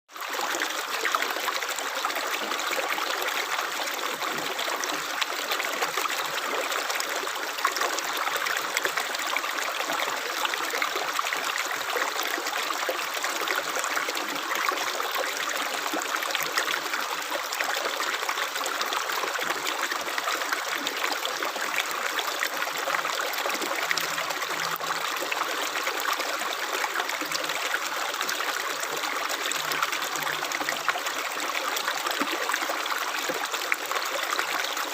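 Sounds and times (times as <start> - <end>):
stream water flowing: 0.1 - 34.9.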